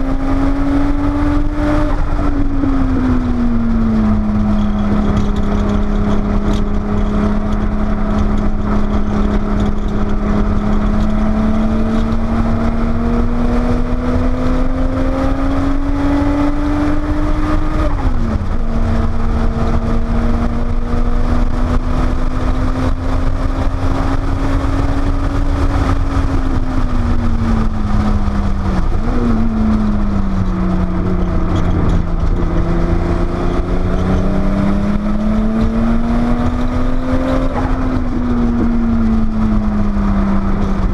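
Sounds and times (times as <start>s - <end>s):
car engine revving: 0.0s - 40.9s
wind and road noise: 0.0s - 40.9s.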